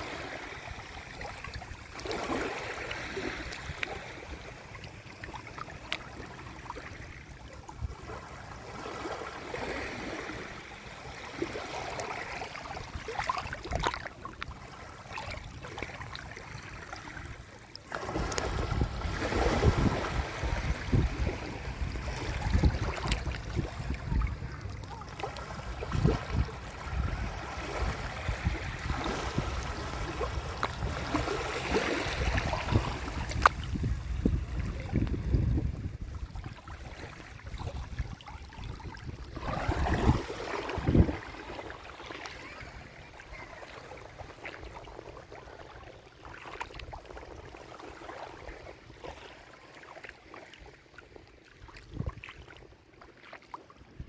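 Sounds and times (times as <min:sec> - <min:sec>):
sea waves washing ashore: 0:00.0 - 0:52.6.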